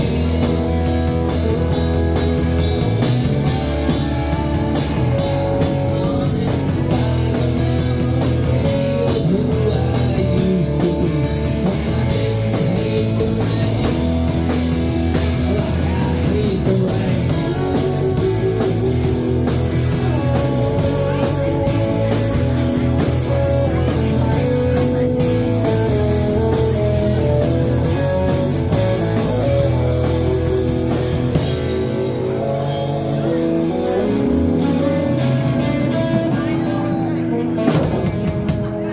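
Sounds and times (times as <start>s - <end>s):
rock music with guitar and drums: 0.0s - 38.9s.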